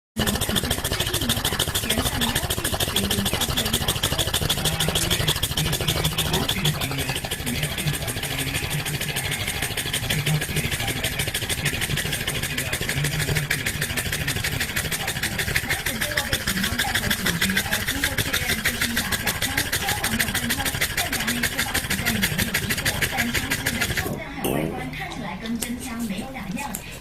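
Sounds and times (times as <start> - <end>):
dog panting hard: 0.2 - 24.2.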